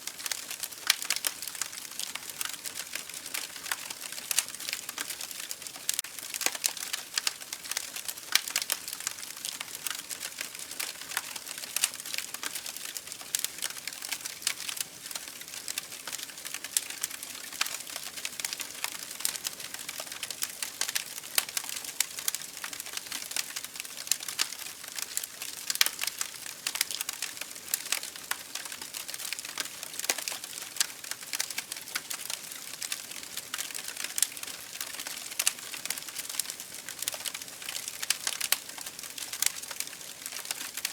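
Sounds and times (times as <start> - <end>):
wood crackling and popping: 0.0 - 40.9.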